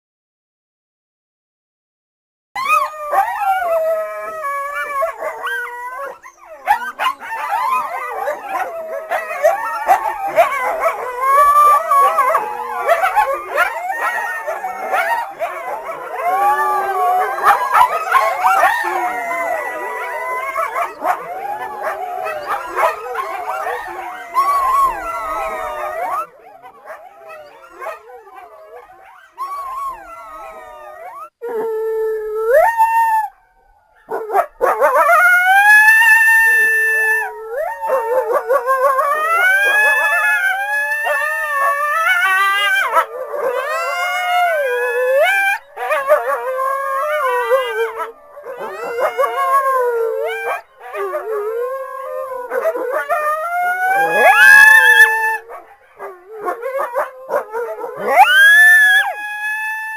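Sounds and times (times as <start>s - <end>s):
coyotes howling and yipping: 2.6s - 59.9s.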